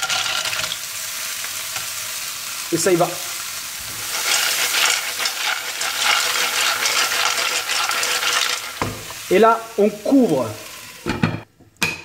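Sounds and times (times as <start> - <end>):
mussels sizzling in a pan: 0.0 - 11.4.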